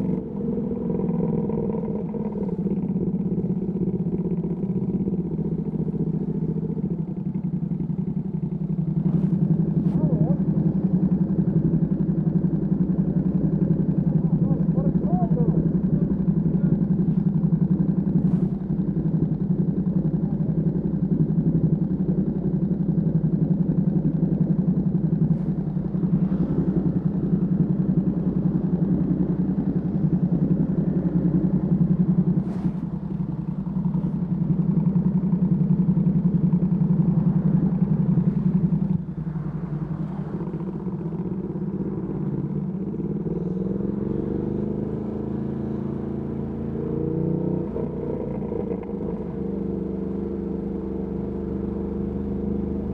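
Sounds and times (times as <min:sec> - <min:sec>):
motorcycle engine revving: 0:00.0 - 0:21.0, 0:21.8 - 0:52.9.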